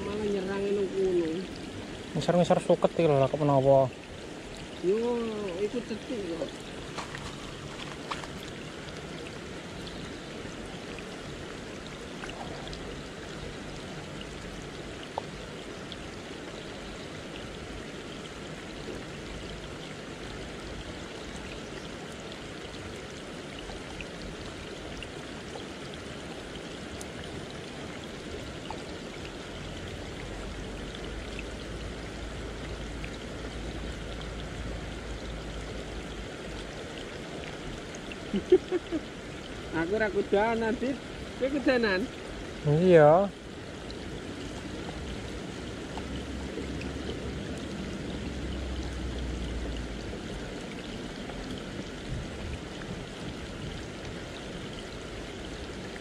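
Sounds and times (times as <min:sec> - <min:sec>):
rushing water hiss: 0:00.0 - 0:56.0.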